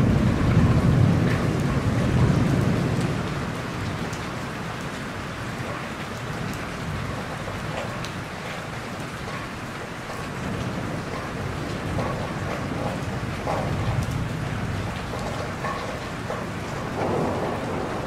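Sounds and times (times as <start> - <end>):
raindrops ticking: 0.0 - 18.0
steady rain falling: 0.0 - 18.0.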